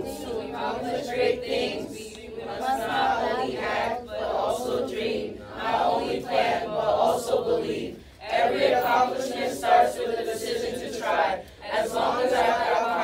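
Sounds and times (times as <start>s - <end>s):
students speaking in unison: 0.0s - 13.0s.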